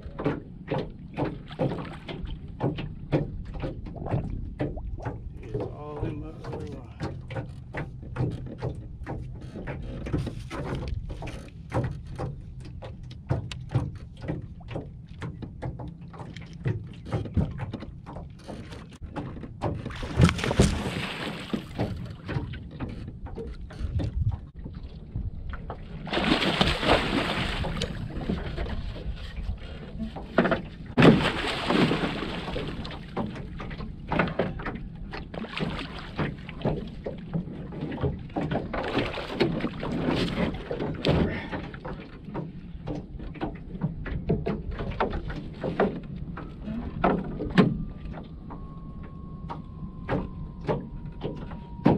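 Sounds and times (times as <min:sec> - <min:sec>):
water splashing: 0:00.0 - 0:18.6, 0:19.6 - 0:51.9.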